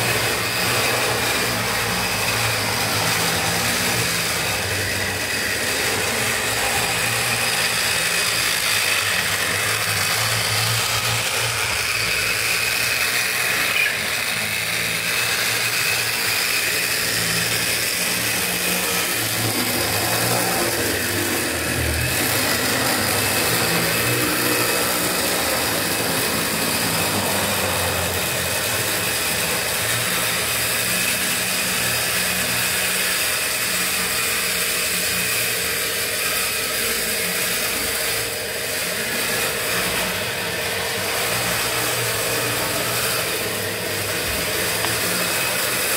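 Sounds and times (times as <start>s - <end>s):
model train motor humming: 0.0s - 45.9s.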